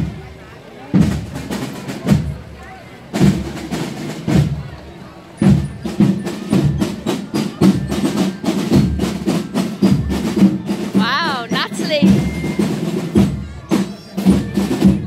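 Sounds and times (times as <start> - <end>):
drums playing: 0.0 - 15.0.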